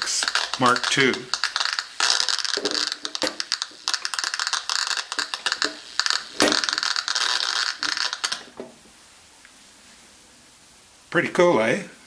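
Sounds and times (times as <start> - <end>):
crackling buzzing static: 0.0 - 10.0
faint hiss: 0.0 - 12.0.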